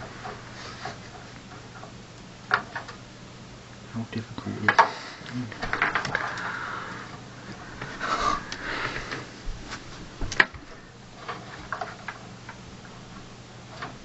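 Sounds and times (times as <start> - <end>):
computer parts rustling and clicking: 0.0 - 3.0, 4.4 - 14.0.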